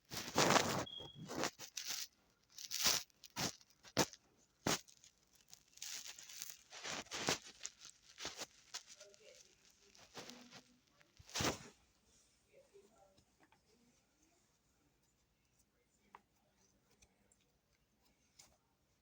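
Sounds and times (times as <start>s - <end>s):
rustling and crinkling: 0.0s - 19.0s.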